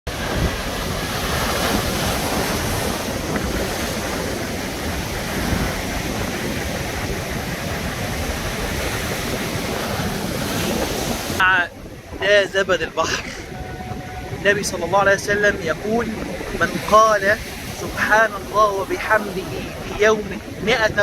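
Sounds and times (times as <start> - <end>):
sea waves washing ashore: 0.1 - 21.0
wind buffeting microphone: 0.1 - 21.0.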